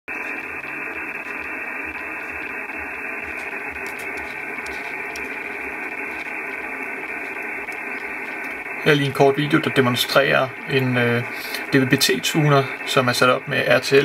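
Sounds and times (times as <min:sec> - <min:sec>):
radio receiver hiss: 0:00.1 - 0:14.0.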